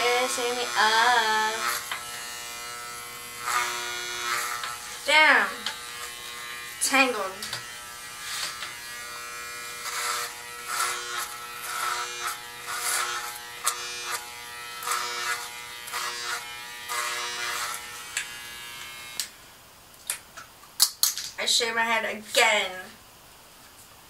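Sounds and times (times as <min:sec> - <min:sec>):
electric hair clippers buzzing: 0:00.0 - 0:19.4.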